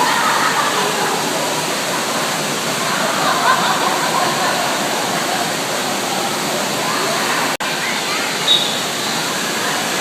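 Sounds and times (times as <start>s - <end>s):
faint voices: 0.0s - 10.0s
falling and splashing water: 0.0s - 10.0s.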